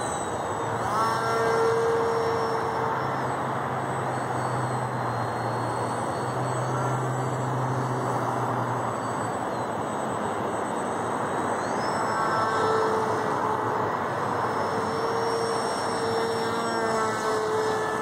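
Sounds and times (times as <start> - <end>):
electric motor propeller drone: 0.0 - 18.0.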